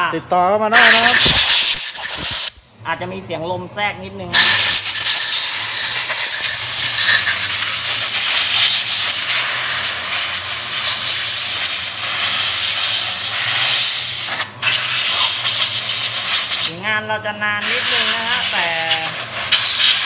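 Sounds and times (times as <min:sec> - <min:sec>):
air blow gun hissing: 0:00.8 - 0:02.6, 0:04.4 - 0:16.8, 0:17.6 - 0:20.0.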